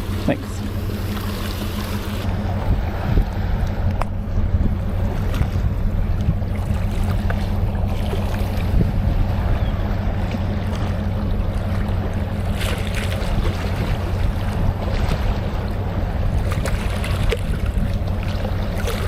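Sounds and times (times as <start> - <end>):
sea at water's edge: 0.0 - 19.0
wind: 0.0 - 19.0.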